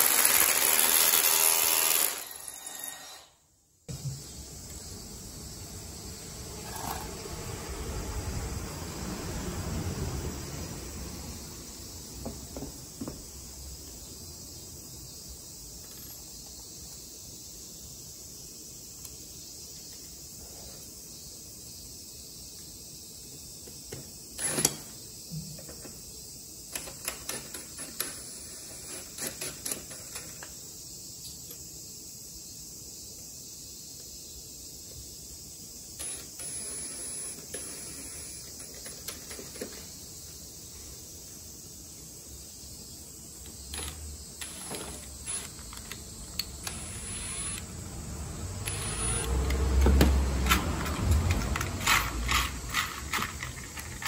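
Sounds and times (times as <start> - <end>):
steady high hiss: 1.5 - 54.0.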